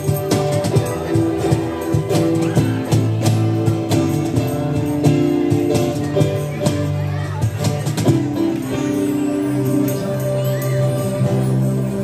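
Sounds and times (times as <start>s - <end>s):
bass guitar line: 0.0s - 12.0s
hand percussion strikes: 0.0s - 12.0s
strummed acoustic guitar: 0.0s - 12.0s.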